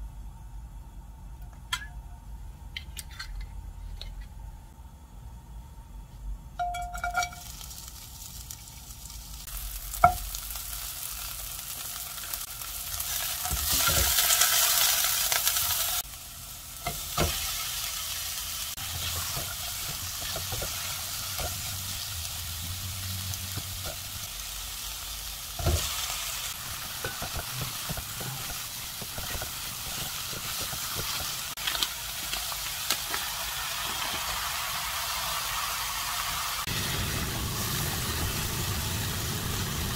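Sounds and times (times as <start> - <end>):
vegetables sizzling in hot oil: 7.1 - 39.9.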